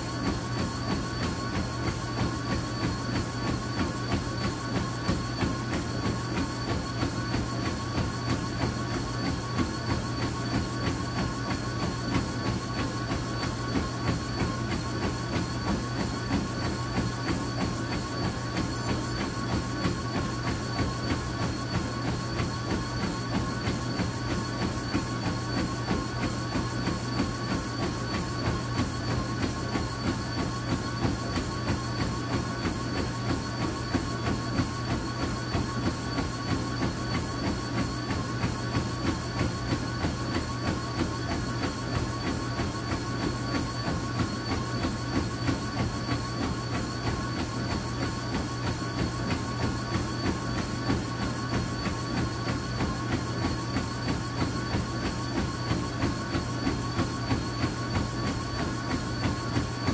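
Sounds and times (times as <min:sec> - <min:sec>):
footfalls on treadmill belt: 0:00.0 - 0:59.9
treadmill motor humming: 0:00.0 - 0:59.9.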